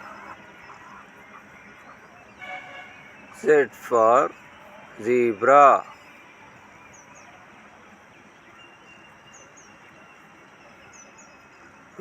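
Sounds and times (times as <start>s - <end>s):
quiet high chirps: 0.0s - 12.0s.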